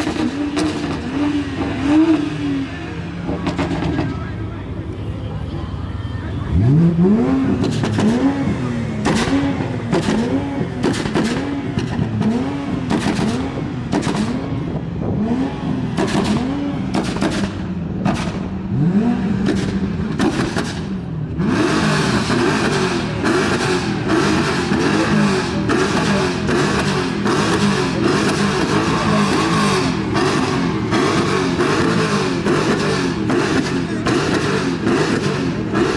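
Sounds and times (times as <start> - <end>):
car engine revving: 0.0 - 35.9
loud rough noise: 0.0 - 35.9.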